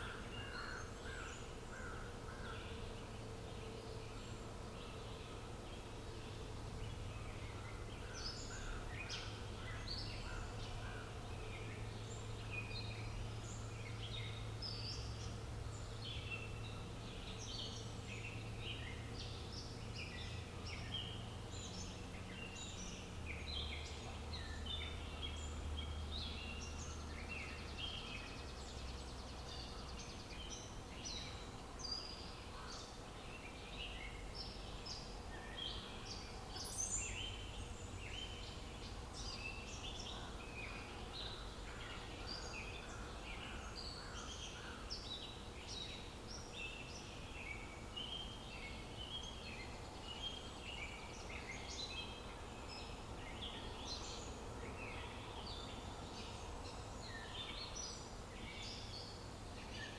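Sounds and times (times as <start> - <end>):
birds chirping and twittering: 0.0 - 59.9
low outdoor hum: 0.0 - 59.9.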